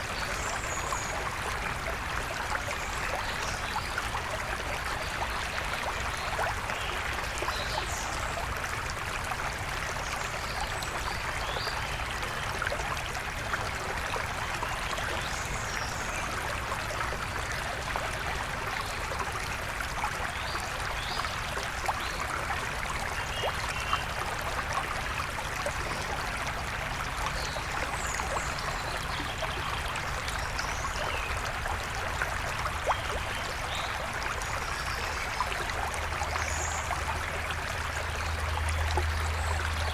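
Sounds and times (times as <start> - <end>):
flowing river: 0.0 - 39.9.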